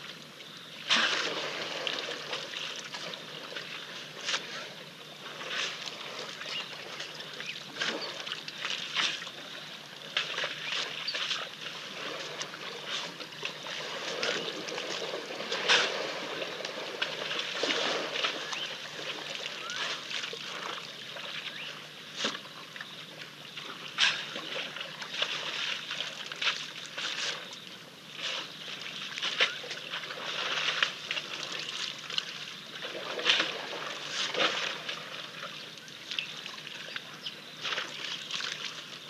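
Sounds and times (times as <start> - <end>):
outdoor background noise: 0.0 - 39.0
elephants splashing water: 0.8 - 22.5, 23.5 - 27.5, 28.2 - 39.0.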